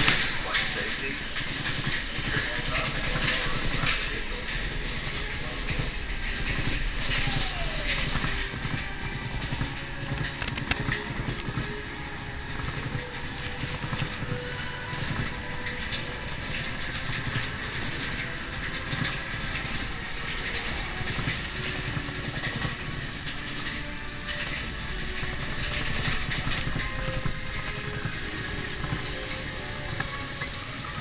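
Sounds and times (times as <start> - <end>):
roller coaster train rumbling: 0.0 - 31.0
wheels rattling and clicking: 0.0 - 31.0.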